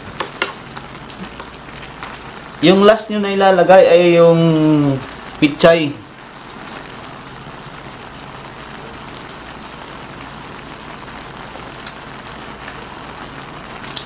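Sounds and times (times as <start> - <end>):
sauce bubbling and sizzling in pan: 0.0 - 14.0.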